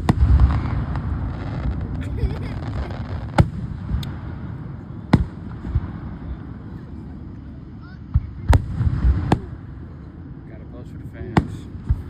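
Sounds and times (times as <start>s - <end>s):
fireworks bangs: 0.0s - 10.1s, 11.2s - 12.0s
low rolling rumble: 0.0s - 12.0s.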